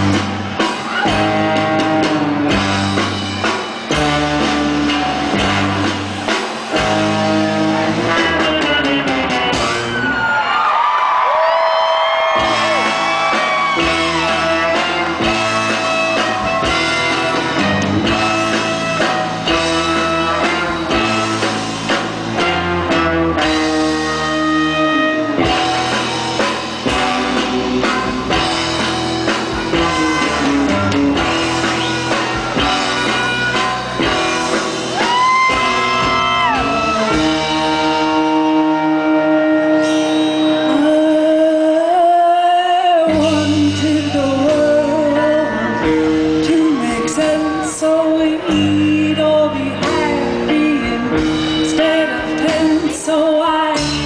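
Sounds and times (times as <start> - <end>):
live band music: 0.0 - 54.0.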